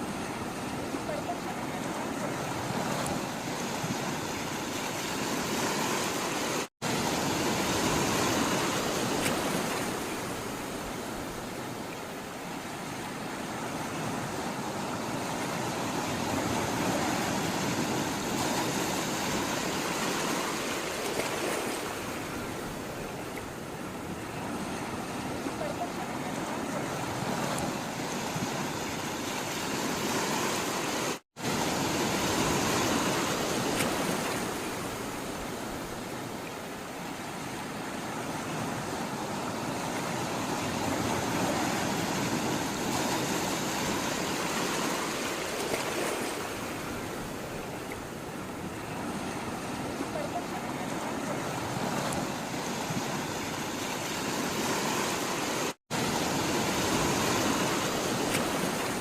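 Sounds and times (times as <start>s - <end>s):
sea water washing and surging: 0.0s - 59.0s.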